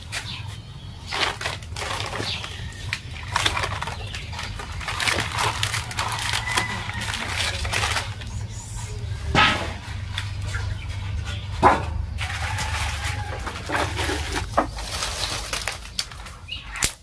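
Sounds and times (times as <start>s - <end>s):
plastic and paper packets crinkling: 0.0s - 9.2s, 12.2s - 17.0s.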